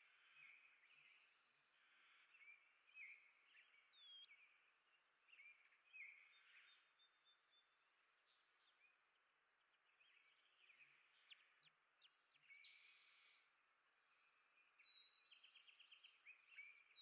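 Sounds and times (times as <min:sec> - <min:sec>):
songbird chirping and warbling: 0:00.0 - 0:09.0, 0:09.7 - 0:17.0.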